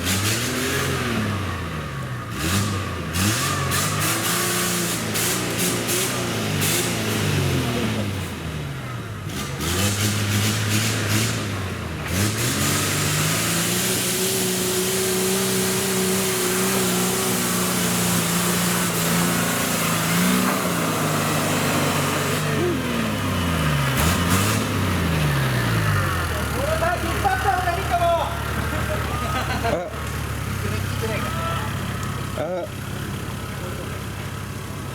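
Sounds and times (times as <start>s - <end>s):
engine revving hard: 0.0s - 8.4s, 9.3s - 32.6s.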